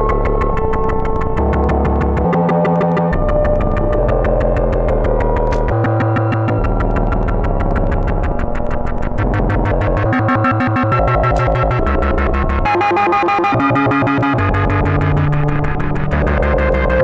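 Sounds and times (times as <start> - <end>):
fast ticking pulse: 0.0 - 17.0
pitched synth notes: 0.0 - 17.0.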